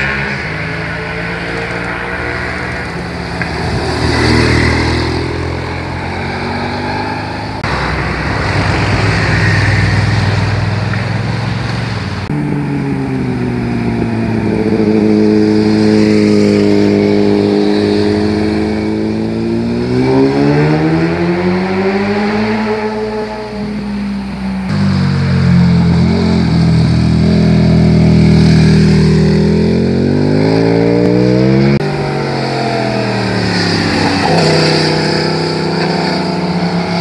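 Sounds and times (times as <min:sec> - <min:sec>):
motorcycle engines passing: 0:00.0 - 0:37.0.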